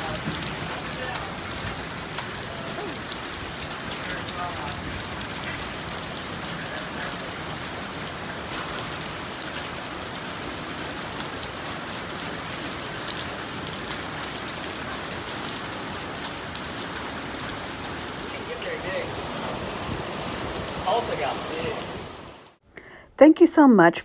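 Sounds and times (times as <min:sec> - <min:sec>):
rain falling: 0:00.0 - 0:22.6.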